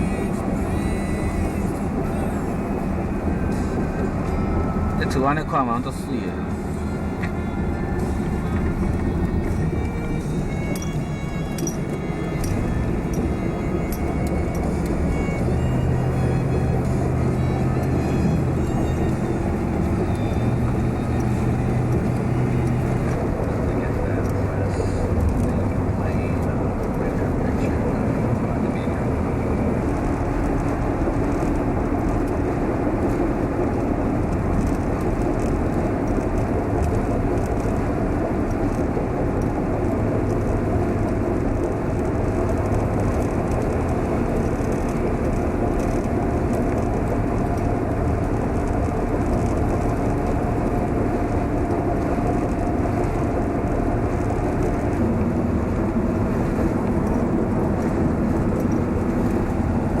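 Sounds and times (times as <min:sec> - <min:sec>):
vehicle road and engine rumble: 0:00.0 - 1:00.0.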